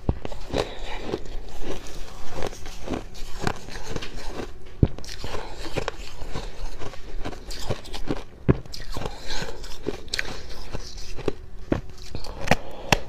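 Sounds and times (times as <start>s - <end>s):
chewing crunchy frost: 0.0s - 13.0s.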